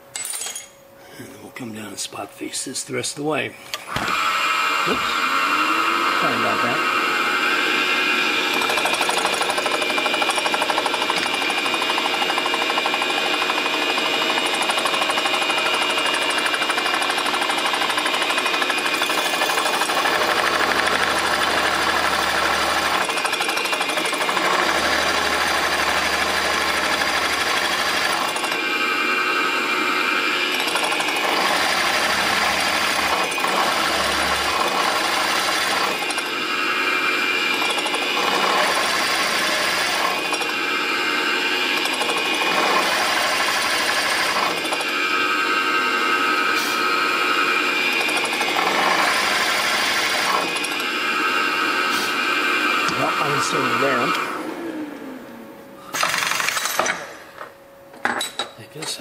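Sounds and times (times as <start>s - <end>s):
milling machine spindle whine: 3.6s - 56.6s.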